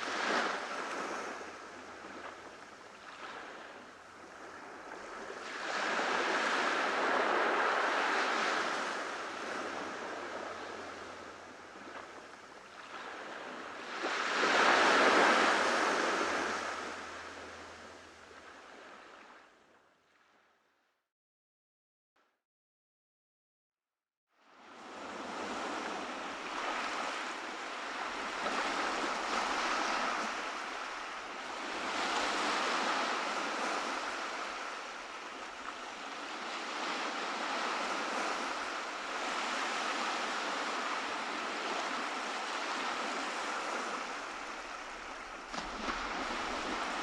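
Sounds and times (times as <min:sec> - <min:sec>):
ocean surf breaking on beach: 0:00.0 - 0:19.2, 0:24.7 - 0:47.0.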